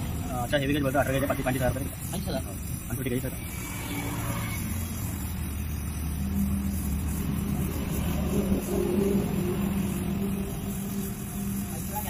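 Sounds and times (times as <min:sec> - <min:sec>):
vehicle engine running: 0:00.0 - 0:12.0
welding torch flame hissing: 0:00.0 - 0:12.0.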